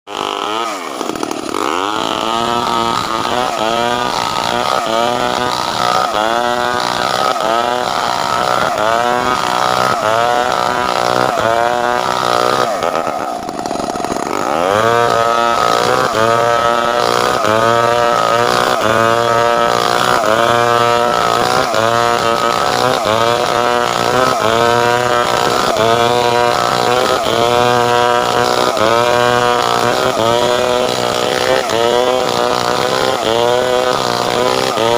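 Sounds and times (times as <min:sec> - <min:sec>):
chainsaw cutting timber: 0:00.1 - 0:34.9.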